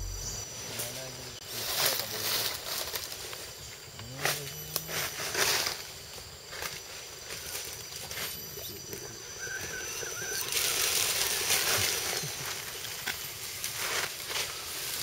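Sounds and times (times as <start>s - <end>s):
dry leaves crackling under tyres: 0.8s - 15.0s.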